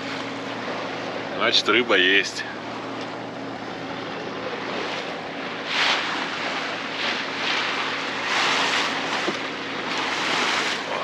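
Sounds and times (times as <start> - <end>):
low steady hum: 0.0 - 11.0
sea water washing against boat: 0.0 - 11.0.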